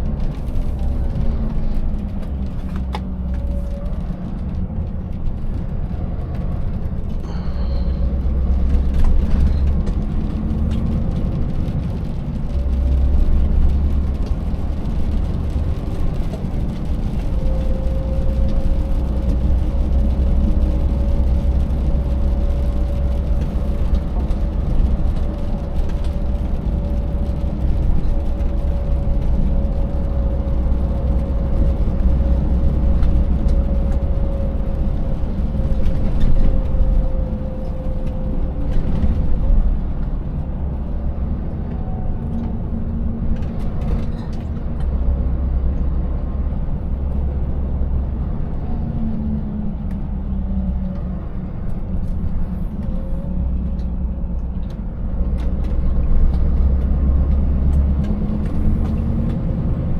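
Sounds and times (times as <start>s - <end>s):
truck engine running: 0.0s - 59.9s
tyre and road noise: 0.0s - 59.9s.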